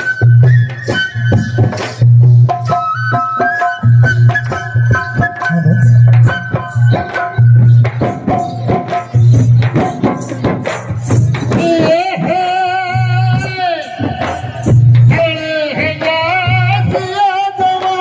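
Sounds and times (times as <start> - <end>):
folk drums and percussion: 0.0 - 18.0.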